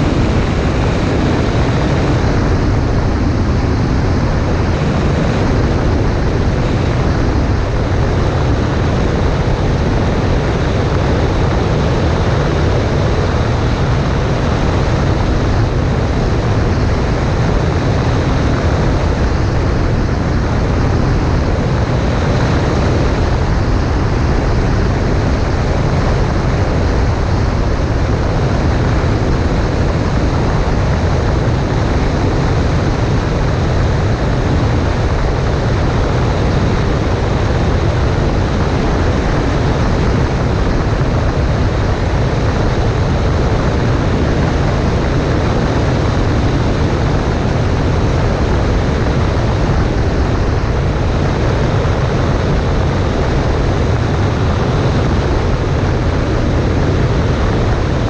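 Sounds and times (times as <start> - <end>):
airplane engine and propeller drone: 0.0 - 58.0
wind rushing: 0.0 - 58.0.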